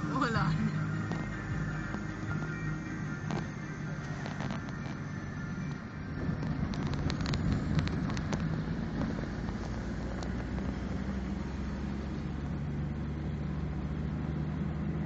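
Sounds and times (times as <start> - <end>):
highway traffic drone: 0.0 - 15.0.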